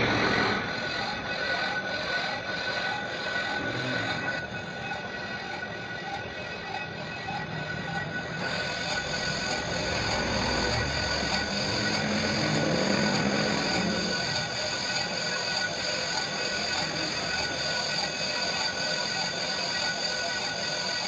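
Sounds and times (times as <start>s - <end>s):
machinery running: 0.0s - 21.0s.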